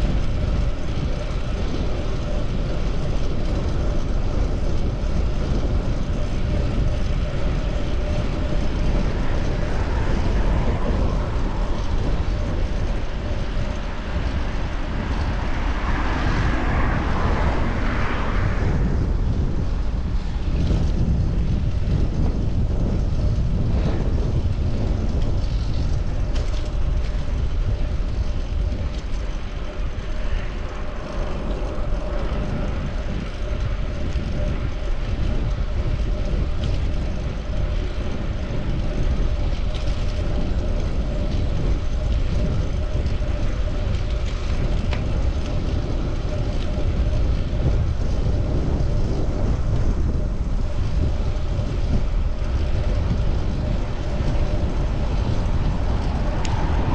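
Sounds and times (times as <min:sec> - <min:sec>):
wind rumble on microphone: 0:00.0 - 0:56.9
passing city traffic: 0:06.4 - 0:36.3, 0:37.6 - 0:56.9.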